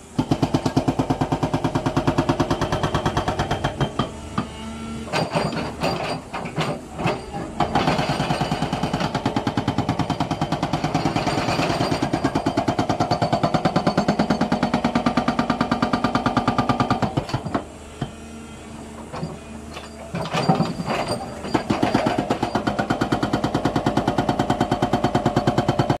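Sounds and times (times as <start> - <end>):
excavator engine running: 0.0 - 26.0
hydraulic breaker hammering rock: 0.0 - 26.0.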